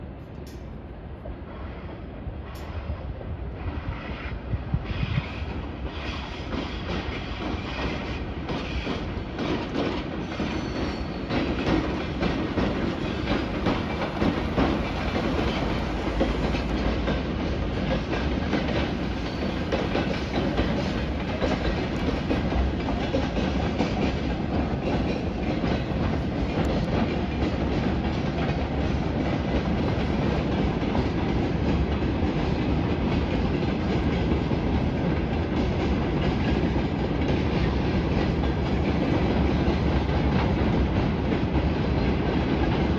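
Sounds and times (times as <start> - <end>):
freight train wheels clicking on rails: 0.0 - 42.9.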